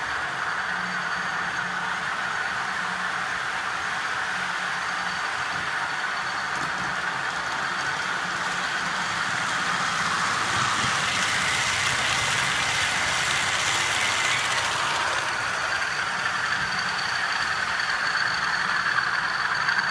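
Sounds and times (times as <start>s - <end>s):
diesel locomotive engine running: 0.0s - 19.9s
train coaches rolling past: 0.0s - 19.9s.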